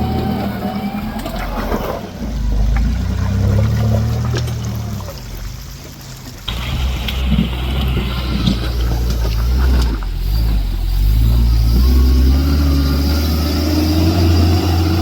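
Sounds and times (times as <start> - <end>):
truck engine running: 0.0 - 15.0
water and mud splashing: 0.0 - 15.0.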